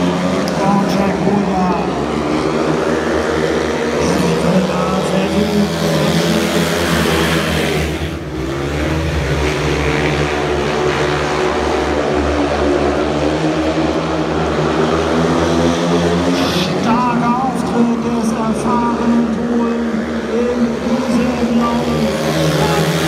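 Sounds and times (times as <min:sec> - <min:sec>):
motorcycle engines racing: 0:00.0 - 0:23.0.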